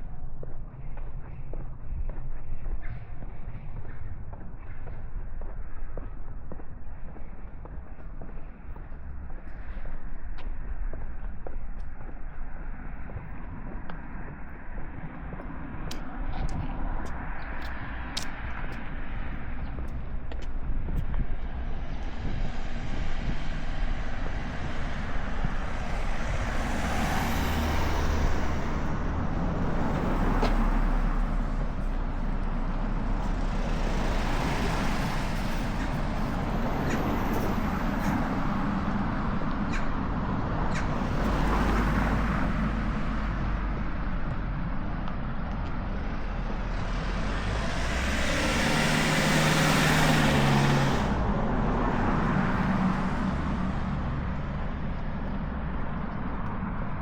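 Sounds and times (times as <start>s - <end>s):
road traffic rumble: 0.0s - 57.0s
vehicles passing: 0.0s - 57.0s.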